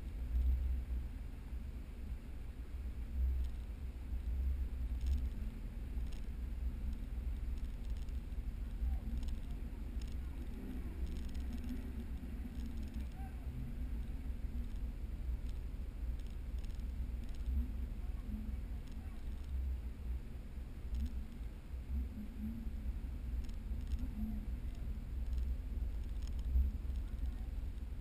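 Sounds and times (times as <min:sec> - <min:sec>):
faint wavering sound: 0:00.0 - 0:28.0.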